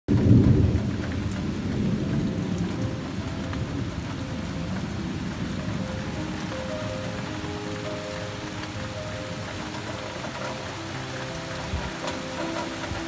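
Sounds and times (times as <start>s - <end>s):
heavy rain: 0.1s - 13.0s
low rumble of thunder: 0.1s - 13.0s.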